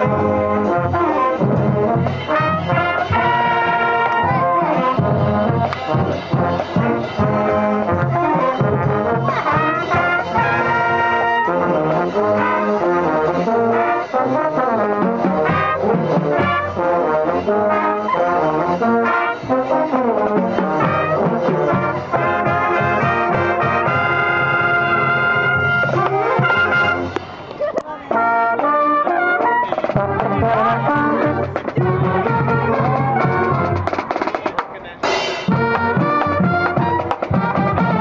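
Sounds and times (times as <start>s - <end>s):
brass section playing loudly: 0.0s - 27.4s, 28.0s - 34.4s, 35.0s - 38.0s.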